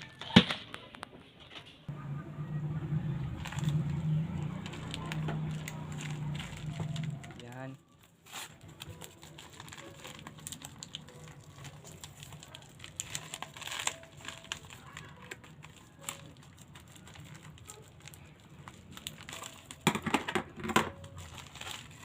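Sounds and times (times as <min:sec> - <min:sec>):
packaging crinkling and rustling: 0:03.2 - 0:22.0.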